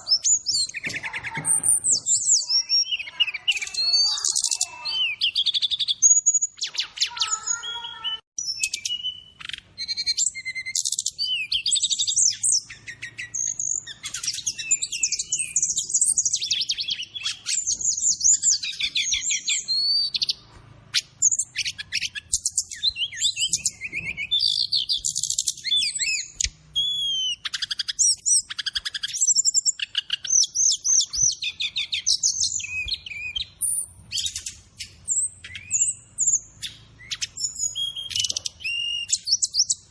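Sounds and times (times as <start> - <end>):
other birds calling: 0.0 - 39.9
songbird singing: 0.0 - 39.9.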